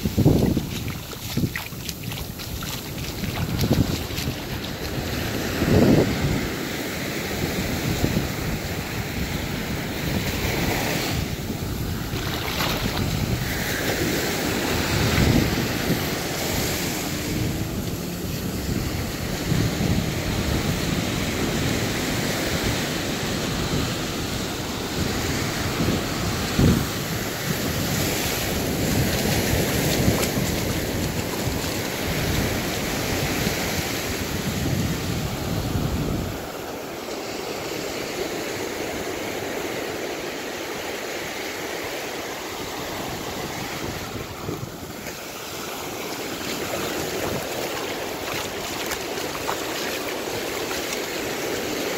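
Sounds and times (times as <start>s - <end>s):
wind buffeting microphone: 0.0s - 36.6s, 42.9s - 51.9s
small waves washing onto sand: 0.0s - 51.9s.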